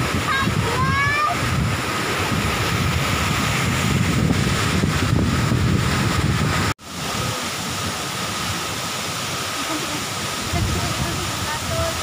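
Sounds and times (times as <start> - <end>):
stream and waterfall rushing: 0.0 - 12.0
wind rumbling on microphone: 0.0 - 12.0.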